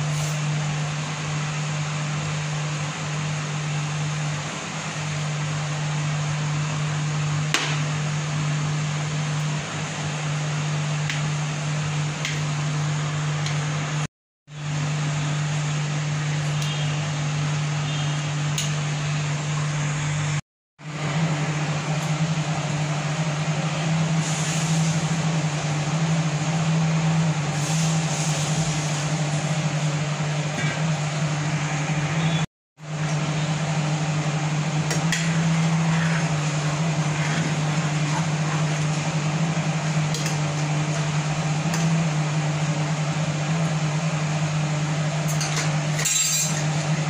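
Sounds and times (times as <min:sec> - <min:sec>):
fan humming: 0:00.0 - 0:47.0.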